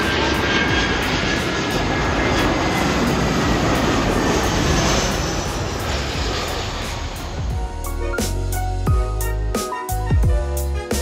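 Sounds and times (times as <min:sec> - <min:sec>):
jet engines roaring: 0:00.0 - 0:08.8.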